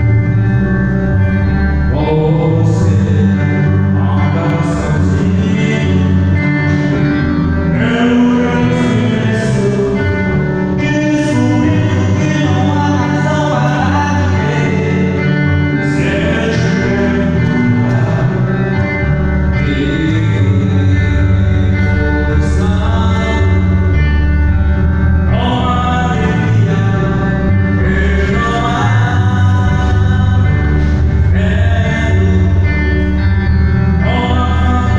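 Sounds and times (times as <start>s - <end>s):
band music with singing: 0.0s - 34.9s.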